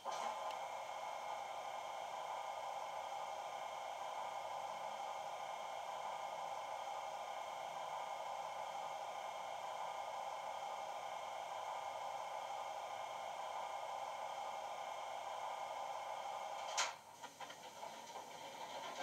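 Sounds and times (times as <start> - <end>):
model train diesel sound whir: 0.0 - 19.0.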